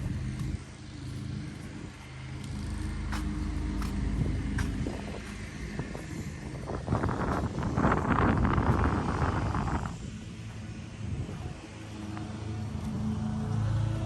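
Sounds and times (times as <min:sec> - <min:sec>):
car exhaust while driving: 0:00.0 - 0:14.0.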